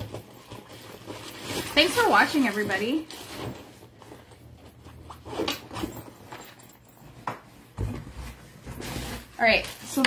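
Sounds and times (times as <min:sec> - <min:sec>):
rummaging in cardboard box: 0:00.0 - 0:10.0.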